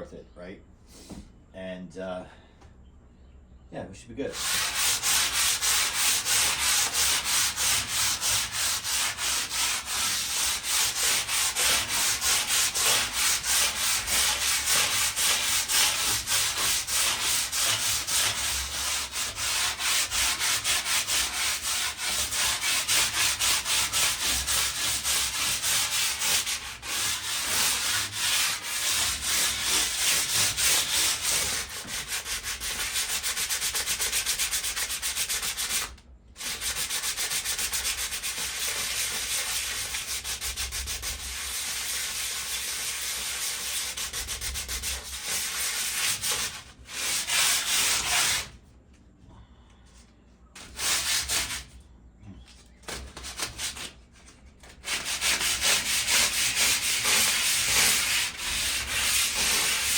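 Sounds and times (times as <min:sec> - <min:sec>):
sandpaper rubbing on metal: 0:04.3 - 0:48.5, 0:50.6 - 0:51.7, 0:54.7 - 0:59.9.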